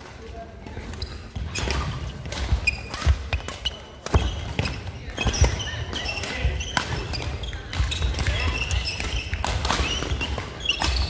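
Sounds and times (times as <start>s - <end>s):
shoes squeaking on wooden floor: 1.0s - 11.0s
racket striking shuttlecock: 1.4s - 11.0s.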